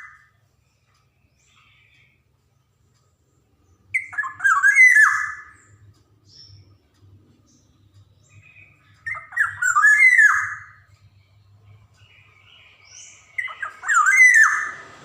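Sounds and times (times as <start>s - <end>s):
bird fluty whistled song: 0.0s - 2.3s, 3.7s - 6.8s, 7.5s - 15.0s.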